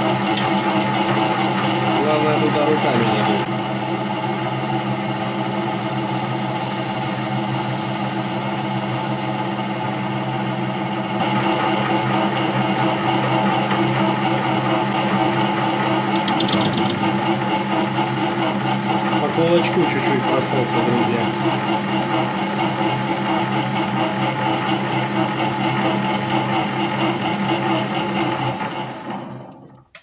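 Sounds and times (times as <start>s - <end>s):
lathe motor humming with whine: 0.0s - 29.4s.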